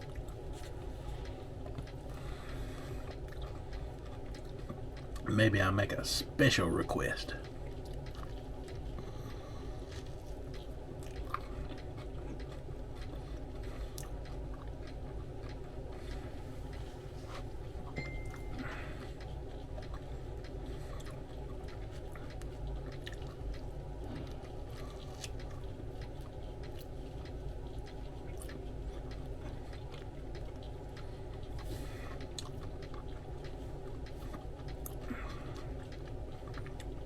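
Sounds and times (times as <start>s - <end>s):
person chewing sandwich: 0.0s - 5.3s, 7.4s - 37.0s
low background hum: 0.0s - 37.0s.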